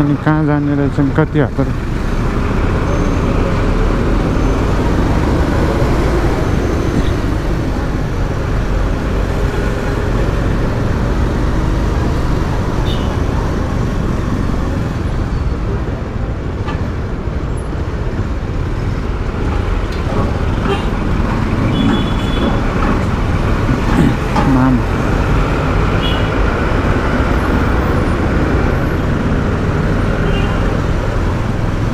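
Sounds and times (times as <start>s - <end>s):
motorcycle road noise: 0.0s - 31.9s.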